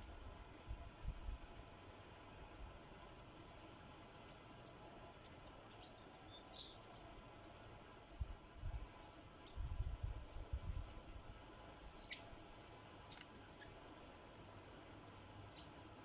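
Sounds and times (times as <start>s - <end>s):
sparrows chirping: 1.0s - 16.0s.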